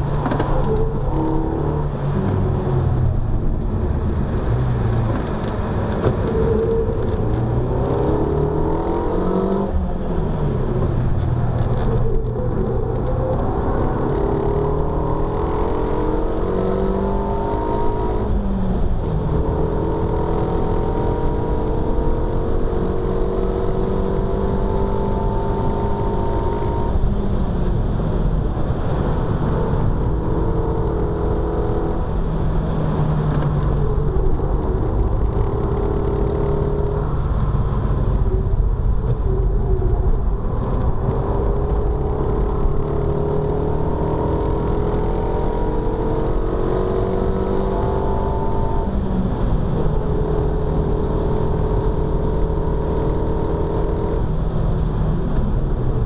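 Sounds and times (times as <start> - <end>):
car engine revving: 0.0 - 55.5
tyre and road noise: 0.0 - 56.0.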